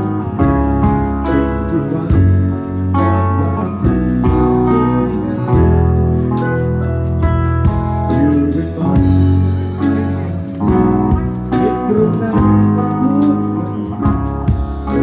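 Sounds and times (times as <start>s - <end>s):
guitar playing: 0.0s - 15.0s
held bass notes: 0.0s - 15.0s.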